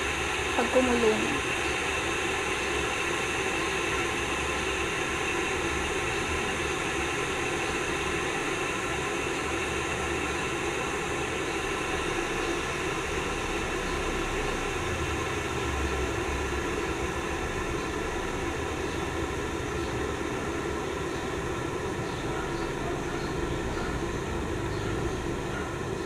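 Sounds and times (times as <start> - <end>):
kettle heating water hiss: 0.0 - 26.0.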